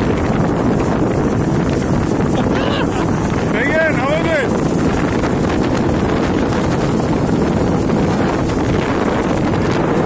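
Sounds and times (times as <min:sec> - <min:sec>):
speedboat rushing across water: 0:00.0 - 0:10.0
wind buffeting microphone: 0:00.0 - 0:10.0.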